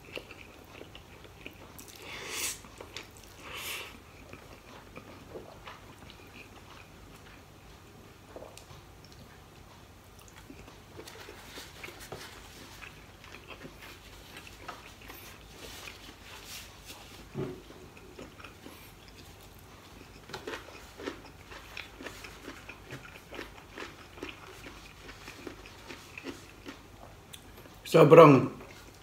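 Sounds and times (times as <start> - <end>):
chewing with mouth clicks: 0.0 - 27.8, 28.6 - 29.0.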